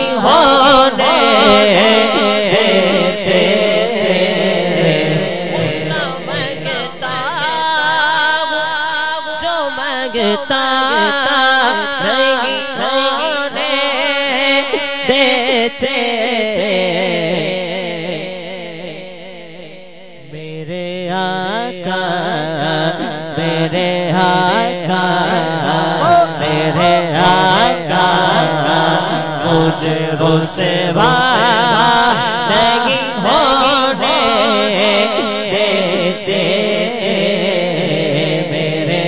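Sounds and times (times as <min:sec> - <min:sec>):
men singing devotional song: 0:00.0 - 0:39.0.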